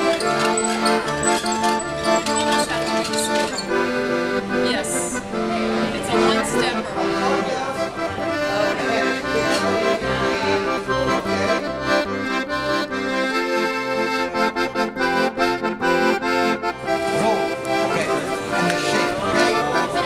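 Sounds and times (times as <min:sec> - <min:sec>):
accordion instrumental music: 0:00.0 - 0:20.0.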